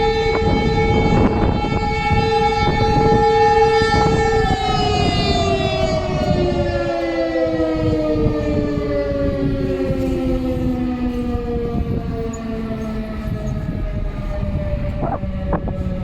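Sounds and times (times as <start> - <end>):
alarm sirens winding down: 0.0 - 16.0.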